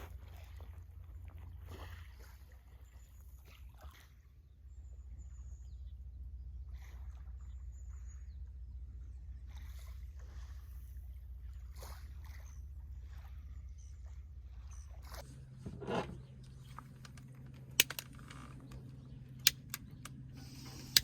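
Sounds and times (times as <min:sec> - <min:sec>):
lake water lapping at shore: 0:00.0 - 0:21.0.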